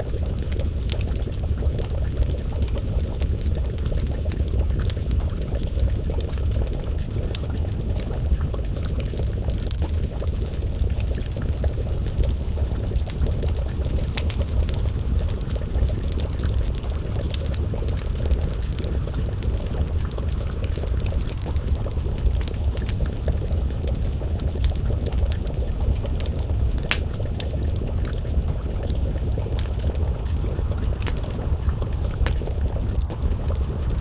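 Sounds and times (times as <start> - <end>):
stew simmering and bubbling: 0.0 - 34.0
wood fire crackling: 0.0 - 34.0.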